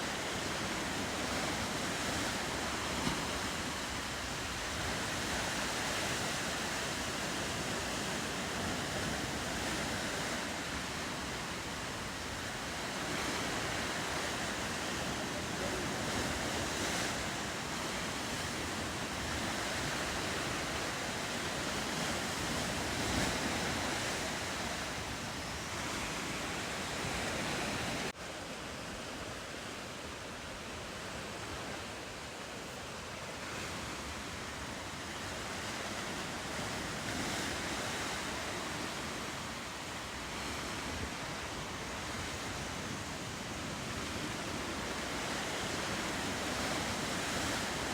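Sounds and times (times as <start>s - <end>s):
ocean surf washing against shore: 0.0s - 47.9s
wind: 0.0s - 47.9s.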